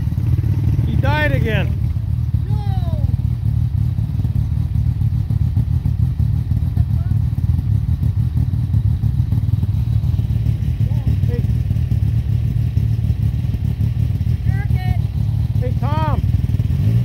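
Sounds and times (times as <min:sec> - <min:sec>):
atv engines droning: 0:00.0 - 0:17.0.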